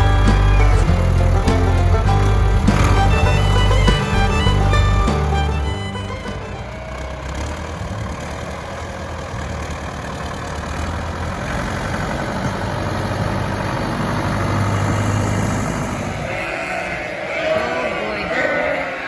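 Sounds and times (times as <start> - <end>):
tractor engine running: 0.0 - 16.8.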